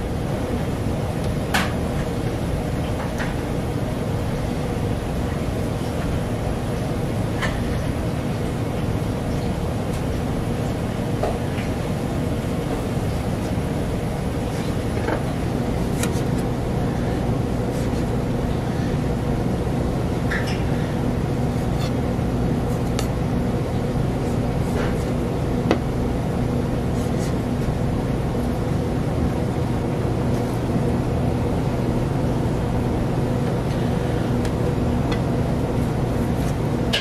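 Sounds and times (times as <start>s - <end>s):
kitchen equipment humming: 0.0s - 37.0s.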